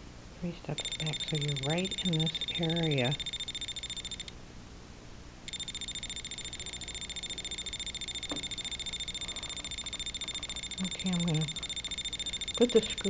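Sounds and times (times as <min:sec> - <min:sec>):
rapidly pulsing electronic beep: 0:00.8 - 0:04.3, 0:05.5 - 0:13.0.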